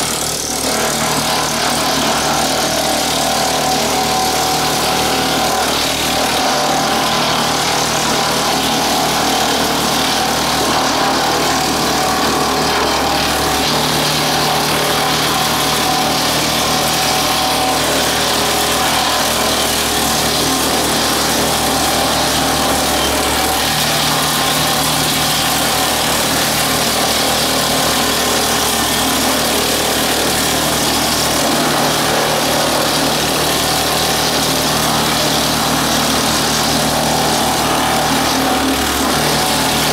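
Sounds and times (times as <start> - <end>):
tractor engine: 0.0 - 39.9
wood chipper running: 0.0 - 39.9.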